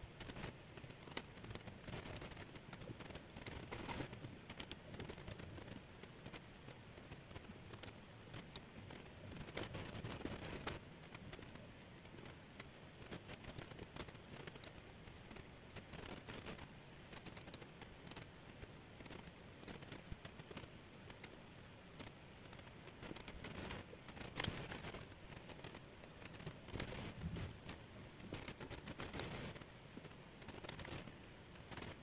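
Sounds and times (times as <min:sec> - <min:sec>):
wooden puzzle pieces clicking: 0:00.2 - 0:32.0.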